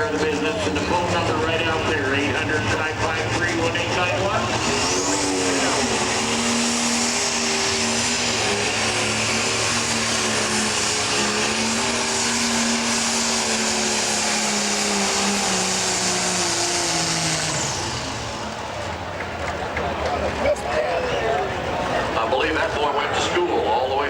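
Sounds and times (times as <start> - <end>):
diesel engine at full throttle: 0.0 - 24.0.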